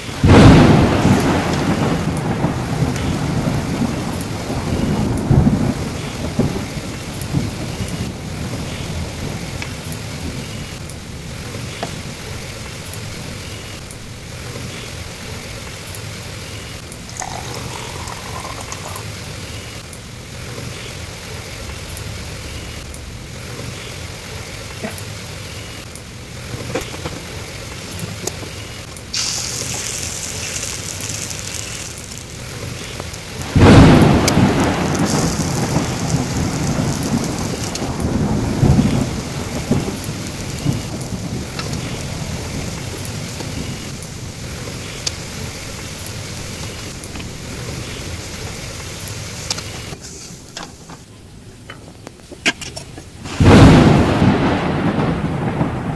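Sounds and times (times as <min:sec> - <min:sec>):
thunder rumbling: 0:00.0 - 0:49.9, 0:53.2 - 0:55.9
steady rain: 0:00.0 - 0:55.9.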